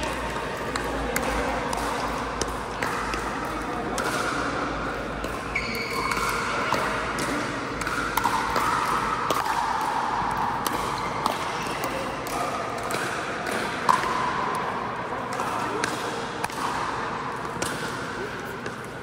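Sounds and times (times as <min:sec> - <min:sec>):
ball bouncing on court: 0:00.0 - 0:18.9.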